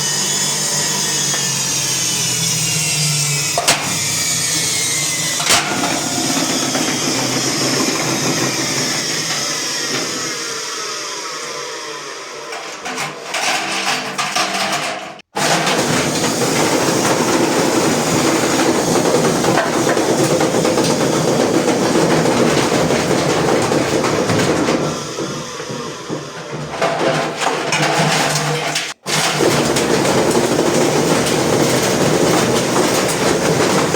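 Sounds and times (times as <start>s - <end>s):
washing machine motor whining: 0.0s - 33.9s
spinning drum rattling: 3.6s - 10.3s, 12.6s - 33.9s.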